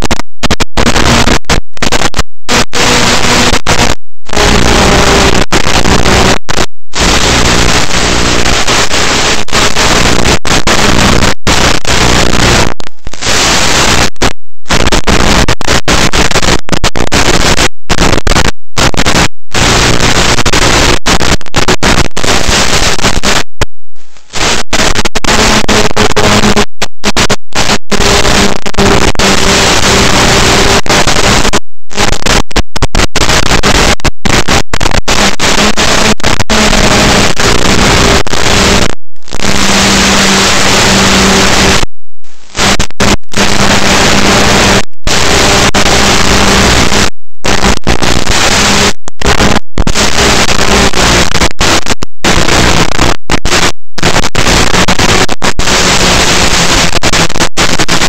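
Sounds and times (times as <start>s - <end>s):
faint steady hum: 0.0s - 52.5s
loud static hiss: 0.0s - 58.0s.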